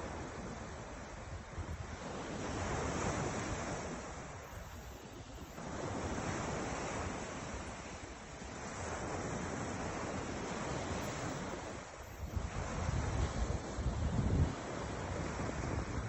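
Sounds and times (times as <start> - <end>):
waves breaking: 0.0 - 16.0
wind: 0.0 - 16.0.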